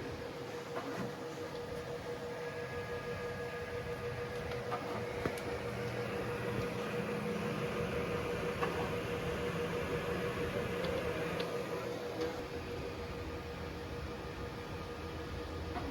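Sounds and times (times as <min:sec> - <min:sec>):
printer mechanical hum: 0:00.0 - 0:15.9
low motor drone: 0:01.1 - 0:15.6.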